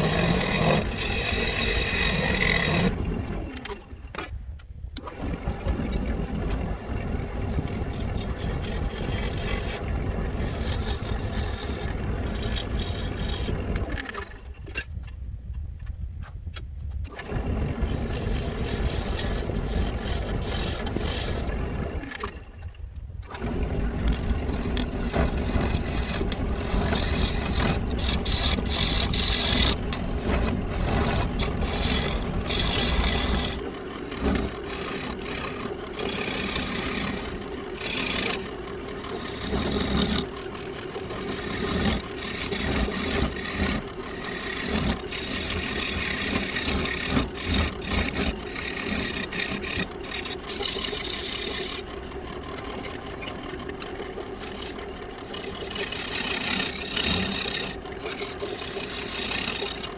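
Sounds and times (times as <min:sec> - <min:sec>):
wood lathe hum: 0:00.0 - 0:03.9, 0:05.0 - 0:14.4, 0:17.1 - 0:22.7, 0:23.3 - 0:59.9
tool scraping wood: 0:00.0 - 0:04.3, 0:07.4 - 0:15.0, 0:16.2 - 0:22.4, 0:23.3 - 0:59.9.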